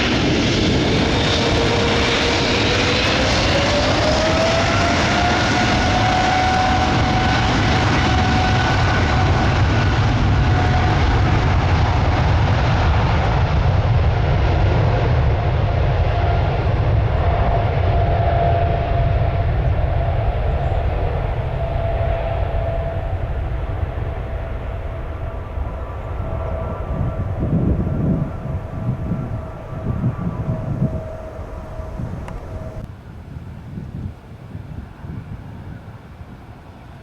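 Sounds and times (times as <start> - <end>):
jet engine whine: 0.0 - 37.0
jet engines roaring at takeoff: 0.0 - 37.0.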